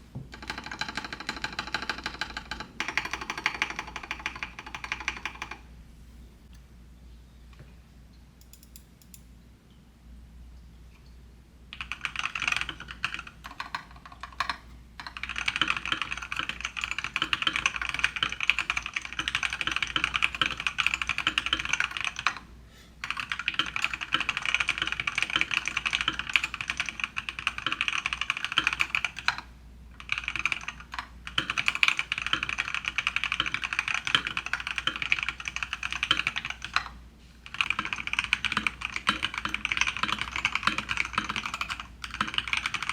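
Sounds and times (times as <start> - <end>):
typing on mechanical keyboard: 0.3 - 5.6, 11.7 - 22.4, 23.0 - 42.9.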